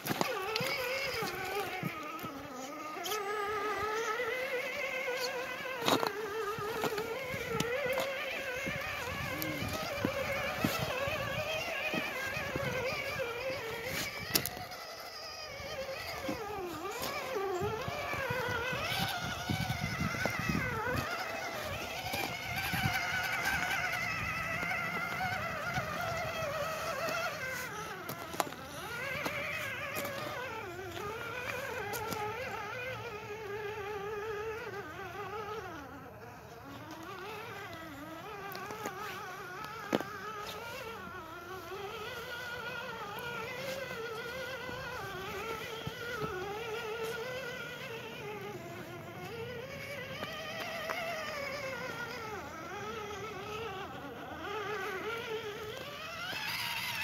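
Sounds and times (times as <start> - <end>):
electric motor and gearbox whining: 0.0 - 57.0.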